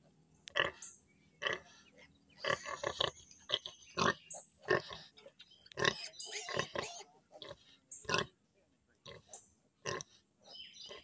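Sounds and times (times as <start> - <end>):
pigs grunting and squeaking: 0.5 - 8.4, 9.1 - 11.0.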